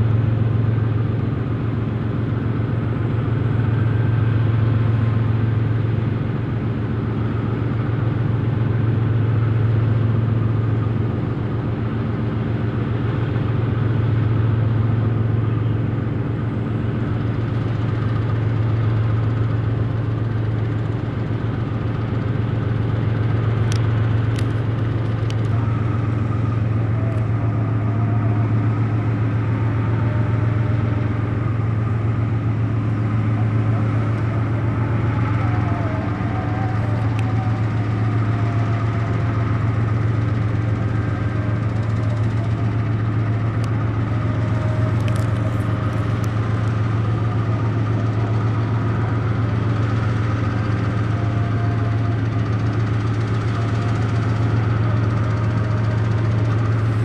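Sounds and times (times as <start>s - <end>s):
locomotive engines idling: 0.0s - 57.0s.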